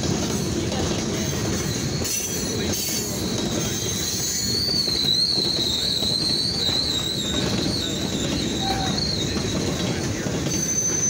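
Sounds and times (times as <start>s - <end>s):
train wheels rumbling on rails: 0.0s - 11.0s
high wavering wheel squeal: 1.4s - 11.0s.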